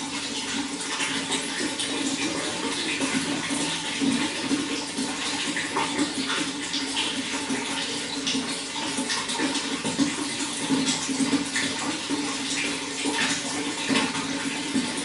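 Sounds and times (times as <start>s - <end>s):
water running and gurgling: 0.0s - 15.0s.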